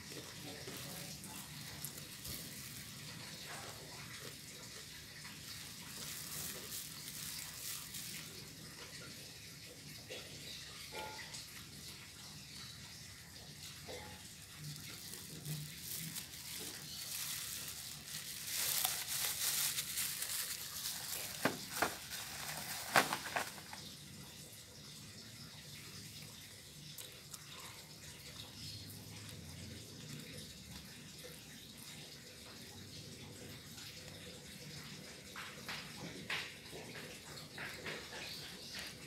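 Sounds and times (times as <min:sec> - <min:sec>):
water running: 0:00.0 - 0:39.0.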